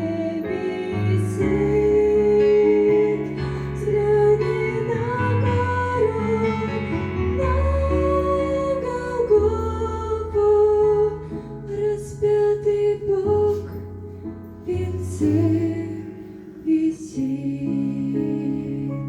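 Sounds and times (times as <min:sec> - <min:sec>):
slow gentle instrumental music: 0:00.0 - 0:19.0.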